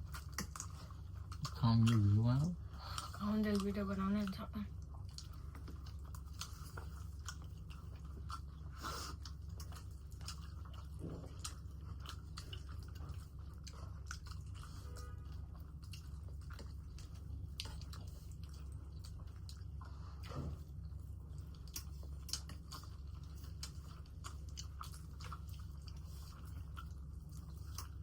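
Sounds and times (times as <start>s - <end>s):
mouth chewing food: 0.0s - 28.0s
steady low hum: 0.0s - 28.0s.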